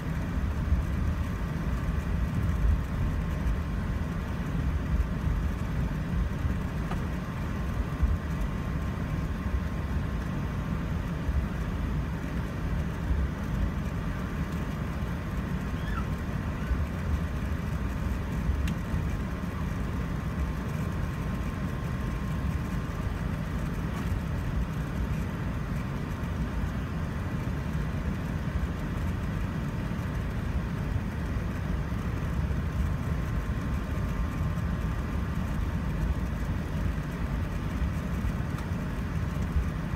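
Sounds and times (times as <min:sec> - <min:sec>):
aircraft cabin low rumble: 0:00.0 - 0:39.9
faint steady whine: 0:00.0 - 0:39.9.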